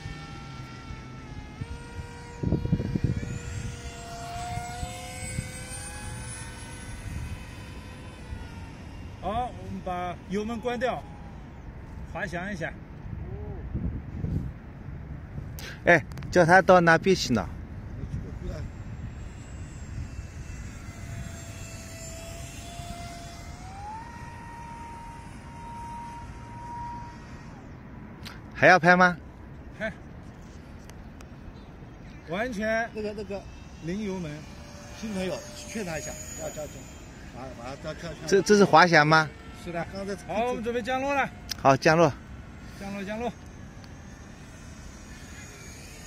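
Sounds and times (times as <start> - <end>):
distant electric motor whine: 0.0 - 46.0
low wind rumble: 0.0 - 46.0.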